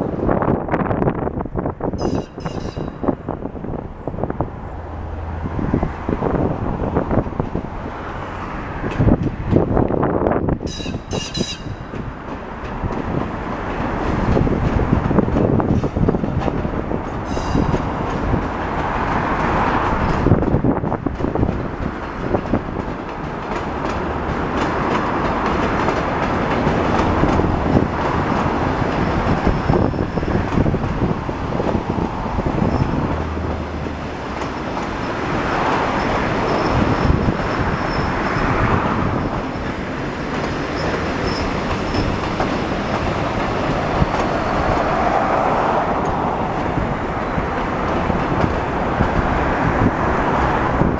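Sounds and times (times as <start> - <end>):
train running rush: 0.0 - 50.9
train wheels clicking over rail joints: 5.7 - 50.9.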